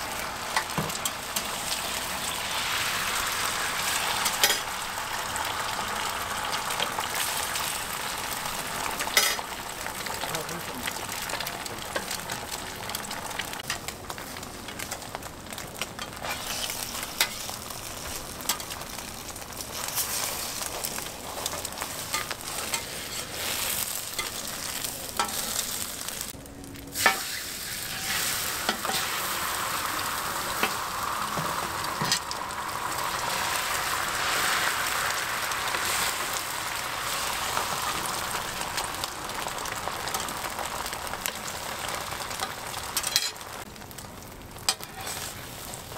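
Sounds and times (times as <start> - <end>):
egg sizzling on a griddle: 0.0 - 45.9.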